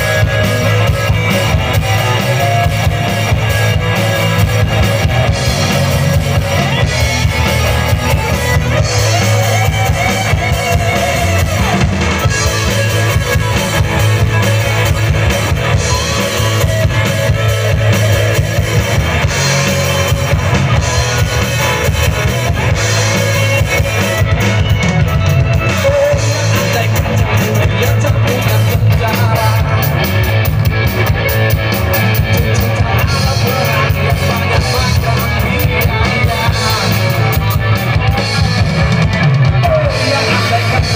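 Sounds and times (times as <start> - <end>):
man singing: 0.0 - 14.7, 20.8 - 40.9
drum kit: 0.0 - 40.9
electric guitars: 0.0 - 40.9.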